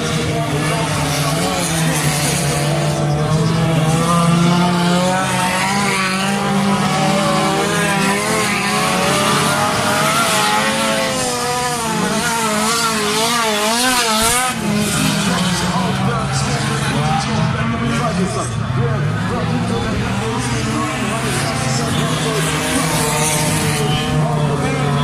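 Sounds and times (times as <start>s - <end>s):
race car engines running hard: 0.0s - 25.0s.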